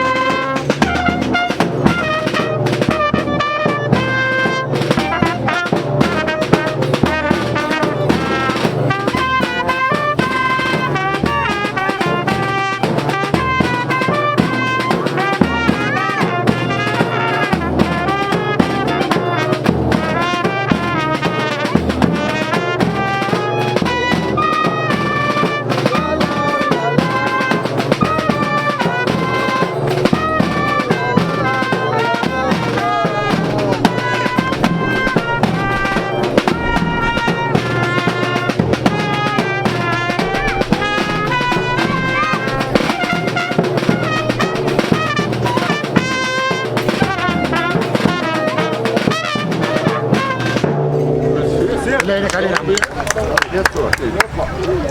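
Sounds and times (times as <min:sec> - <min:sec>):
steady drumming: 0:00.0 - 0:54.9
wind instruments melody: 0:00.0 - 0:54.9.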